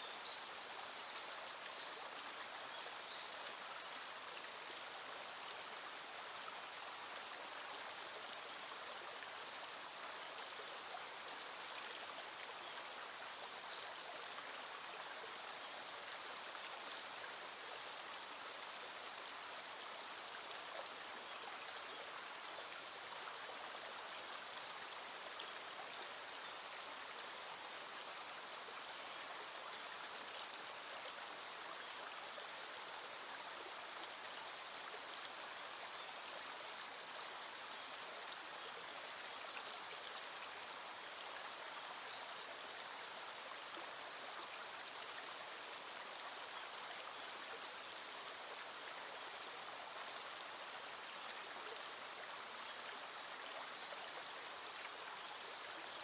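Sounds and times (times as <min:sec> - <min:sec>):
small stream flowing: 0:00.0 - 0:56.0.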